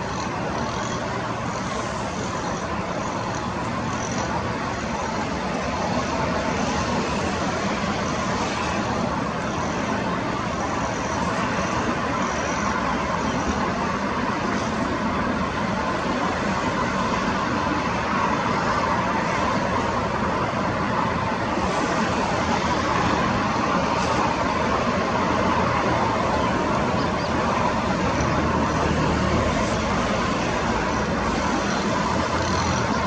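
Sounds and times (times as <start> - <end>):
engine roar: 0.0 - 33.0.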